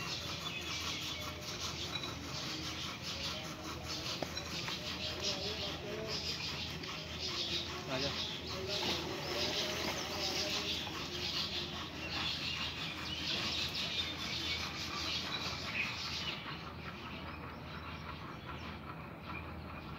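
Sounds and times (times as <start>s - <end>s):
small birds chirping in chorus: 0.0s - 19.9s.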